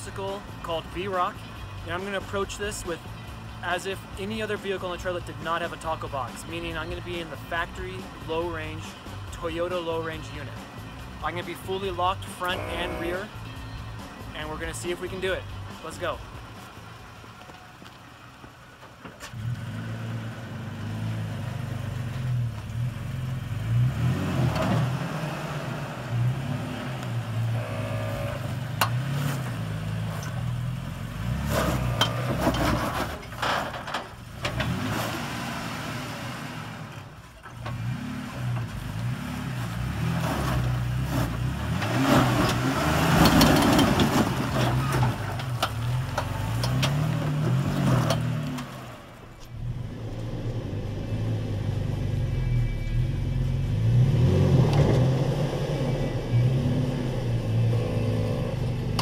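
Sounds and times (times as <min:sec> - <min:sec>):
truck engine revving: 0:00.0 - 0:17.3, 0:19.3 - 0:59.0.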